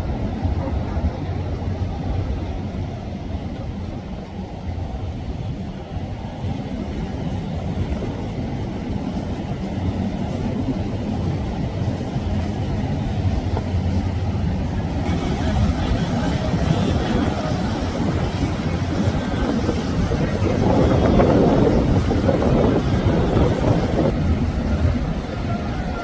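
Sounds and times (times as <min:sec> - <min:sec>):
motorboat engine: 0:00.0 - 0:26.0
water noise: 0:00.0 - 0:26.0
wind noise: 0:00.0 - 0:26.0.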